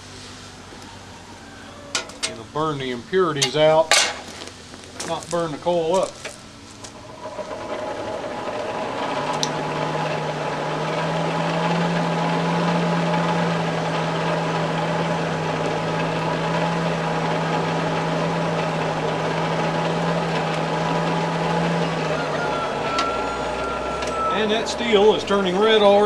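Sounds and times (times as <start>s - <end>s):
electric air blower humming: 0.0s - 26.0s.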